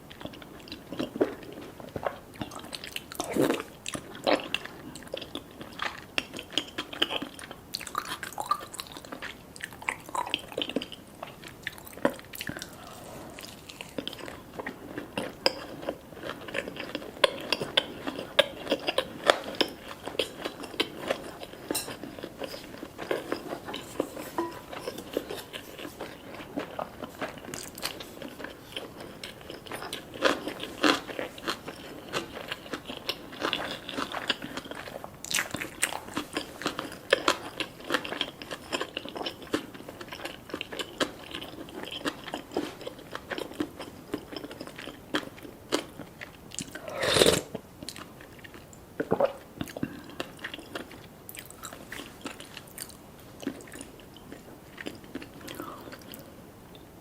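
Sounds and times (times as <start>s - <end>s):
person chewing crunchy food: 0.0s - 56.3s.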